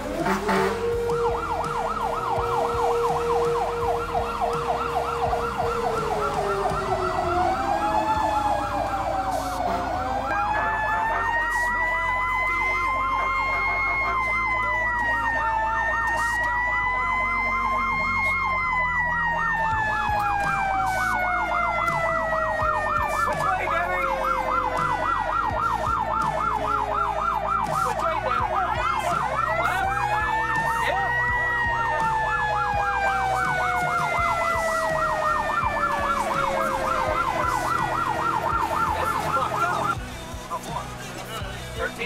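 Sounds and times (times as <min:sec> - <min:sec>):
electronic yelp siren: 0:00.0 - 0:41.0
wailing siren: 0:00.0 - 0:42.0.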